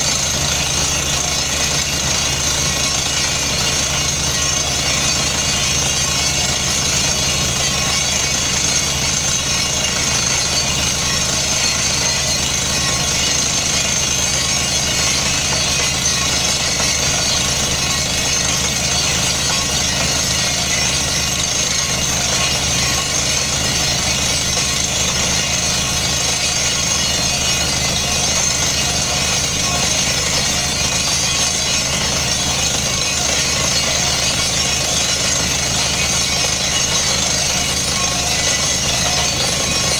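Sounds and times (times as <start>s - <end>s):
heavy engine and compressor drone: 0.0s - 39.9s.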